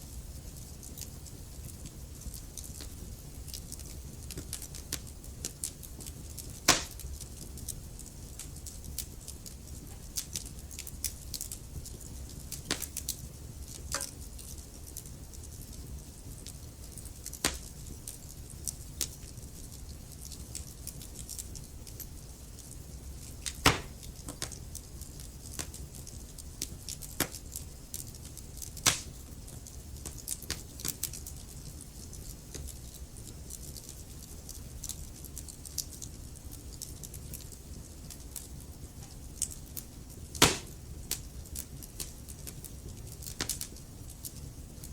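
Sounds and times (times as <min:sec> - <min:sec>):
fire low rumble: 0:00.0 - 0:44.9
wood fire crackling: 0:00.0 - 0:44.9.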